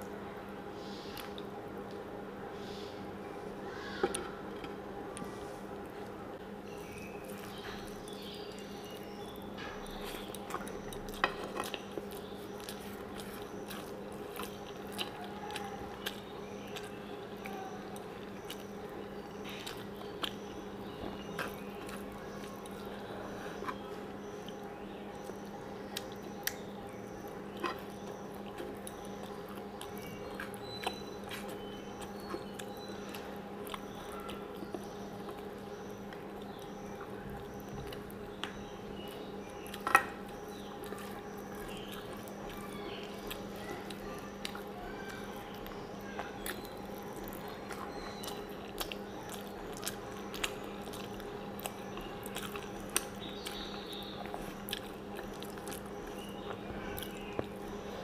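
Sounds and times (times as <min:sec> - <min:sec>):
steady low hum: 0:00.0 - 0:58.0
chewing and wet mouth sounds: 0:01.0 - 0:02.0, 0:04.7 - 0:58.0.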